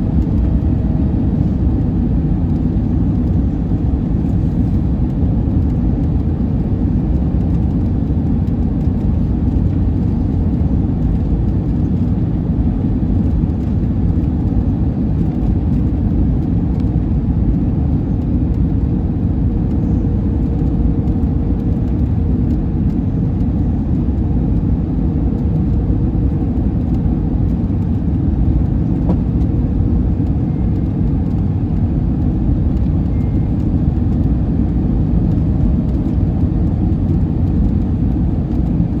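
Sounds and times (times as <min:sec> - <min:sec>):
airliner cabin engine rumble: 0:00.0 - 0:39.0.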